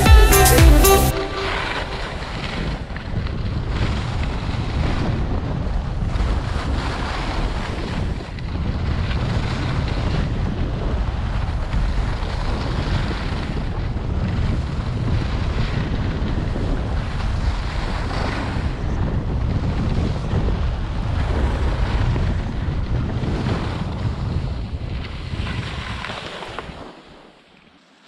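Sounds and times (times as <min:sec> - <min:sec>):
wind buffeting microphone: 0:02.1 - 0:27.0
skis sliding over packed snow: 0:03.7 - 0:28.0.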